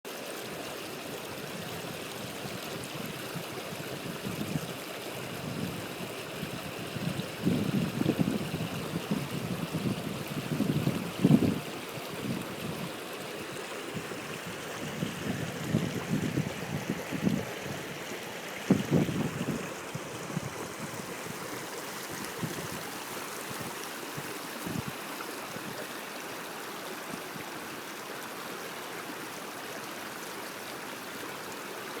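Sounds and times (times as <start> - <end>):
running water: 0.1 - 32.0.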